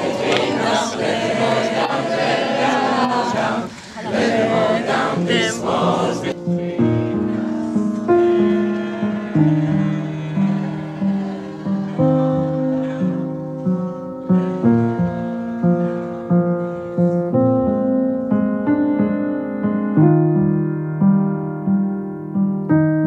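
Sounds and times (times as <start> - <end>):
piano melody: 1.6 - 23.0.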